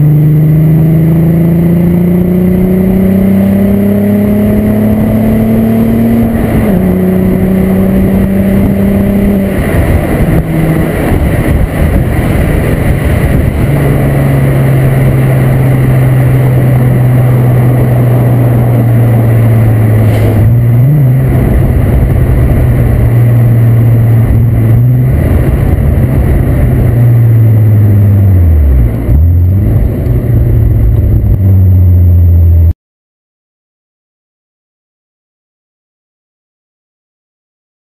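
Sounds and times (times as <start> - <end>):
car engine and exhaust drone: 0.0 - 32.8.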